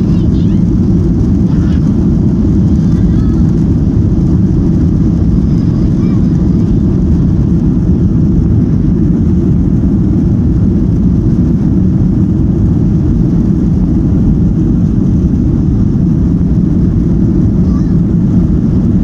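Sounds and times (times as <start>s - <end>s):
airliner engine drone in cabin: 0.0s - 19.0s.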